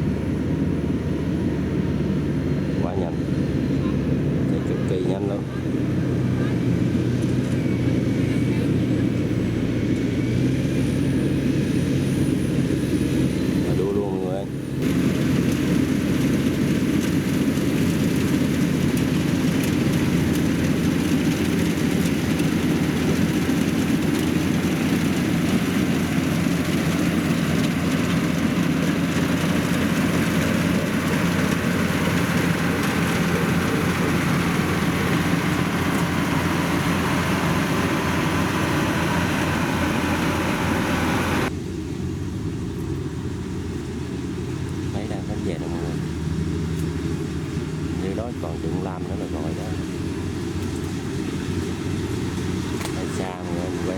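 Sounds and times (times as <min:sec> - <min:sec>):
combine harvester engine hum: 0:00.0 - 0:53.9.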